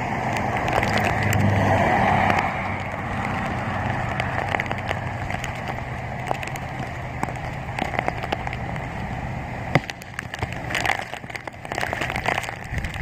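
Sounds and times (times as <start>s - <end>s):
low steady hum: 0.0s - 13.0s
rain and wind: 0.0s - 13.0s
sharp ticks and knocks: 0.2s - 8.9s, 9.7s - 13.0s.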